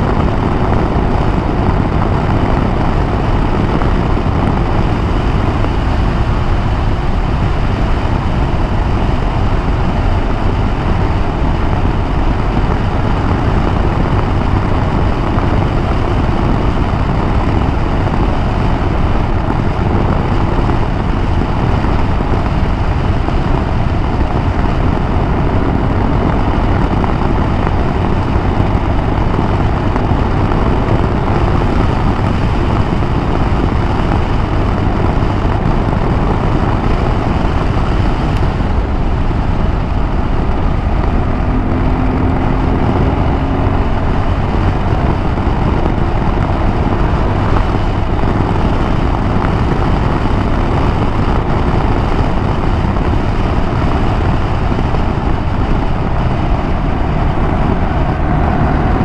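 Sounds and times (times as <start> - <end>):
motorcycle engine cruising: 0.0 - 59.0
road noise: 0.0 - 59.0
wind on microphone: 0.0 - 59.0.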